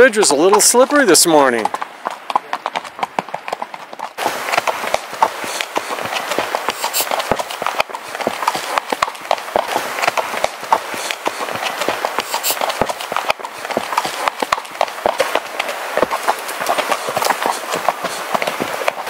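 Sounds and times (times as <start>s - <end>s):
hooves clopping on stony trail: 0.0s - 19.0s.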